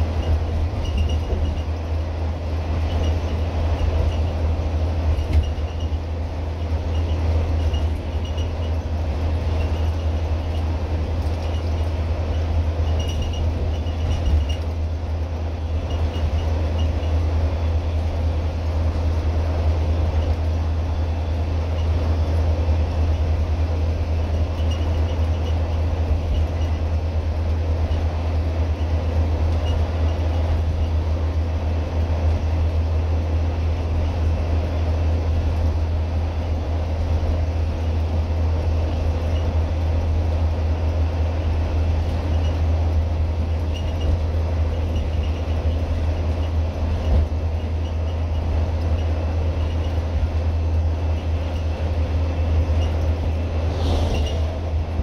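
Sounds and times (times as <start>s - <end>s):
bus engine drone: 0.0s - 55.0s
road and wind noise: 0.0s - 55.0s.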